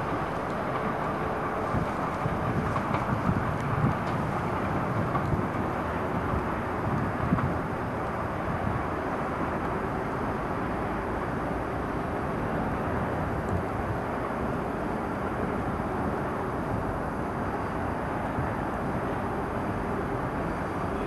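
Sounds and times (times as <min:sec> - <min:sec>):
metro train running on track: 0:00.0 - 0:21.0
road traffic: 0:00.0 - 0:21.0.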